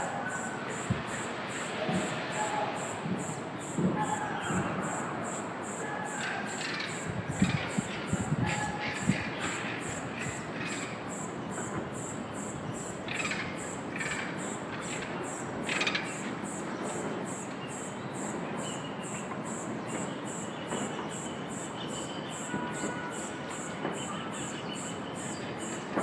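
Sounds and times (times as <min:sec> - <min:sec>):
insects pulsing chorus: 0:00.0 - 0:26.0.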